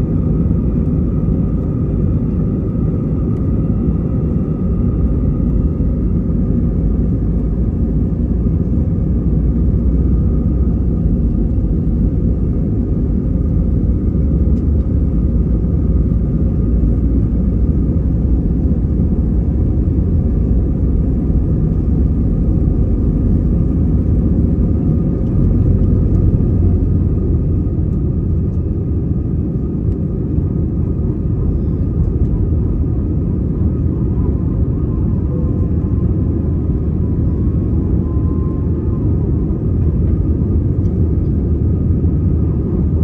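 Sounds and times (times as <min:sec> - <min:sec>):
jet engines rumbling: 0:00.0 - 0:43.0
wheels rumbling on runway: 0:00.0 - 0:43.0.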